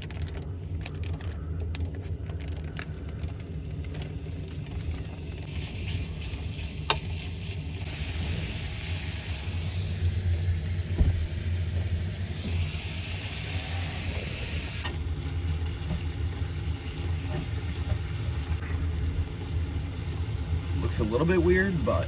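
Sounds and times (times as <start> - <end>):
meat frying in a pan: 3.4 - 22.0.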